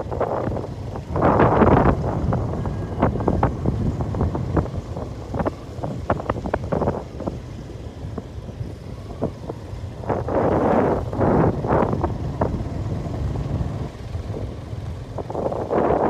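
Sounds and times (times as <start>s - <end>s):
low steady rumble: 0.0s - 16.0s
wind buffeting microphone: 0.0s - 16.0s.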